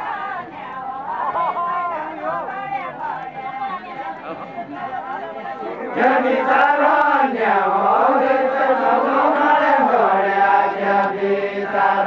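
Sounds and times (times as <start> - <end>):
group singing in unison: 0.0 - 12.0.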